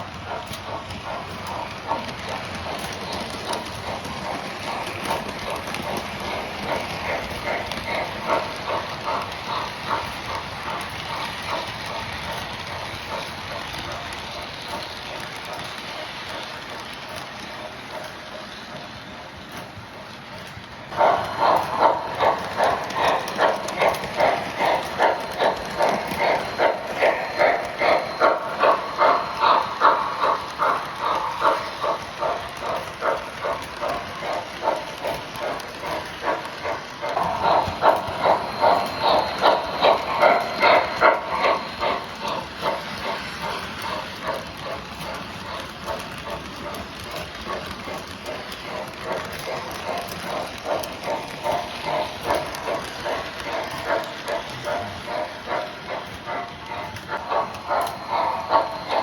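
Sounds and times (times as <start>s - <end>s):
model locomotive pulsing beat: 0.0s - 59.0s.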